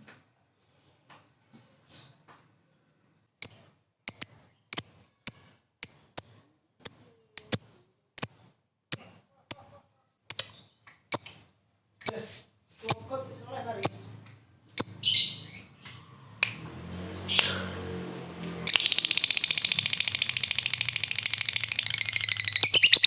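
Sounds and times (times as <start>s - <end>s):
bird chirping: 3.4s - 16.4s, 17.2s - 23.0s.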